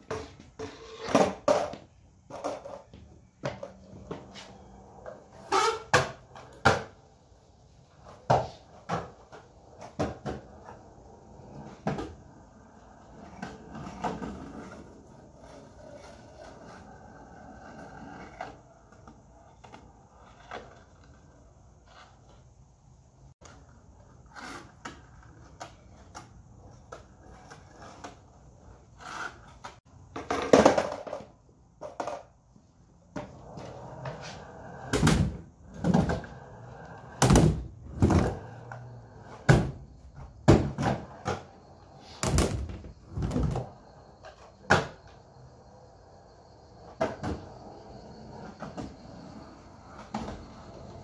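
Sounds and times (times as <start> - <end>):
skateboard clacks and thuds: 0.0 - 7.2, 7.8 - 22.5, 23.4 - 45.5, 46.7 - 51.0
skateboard wheels rumbling on concrete: 0.0 - 51.0.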